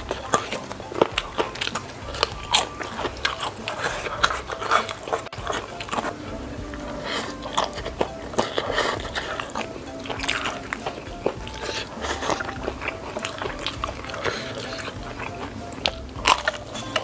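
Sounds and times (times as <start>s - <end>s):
chewing and crunching food: 0.0s - 17.0s
slurping noodles: 0.0s - 17.0s.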